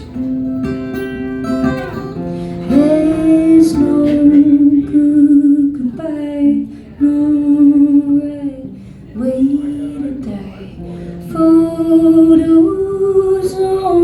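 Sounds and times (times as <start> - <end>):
strummed acoustic guitar: 0.0 - 14.0
woman singing long notes: 2.6 - 14.0.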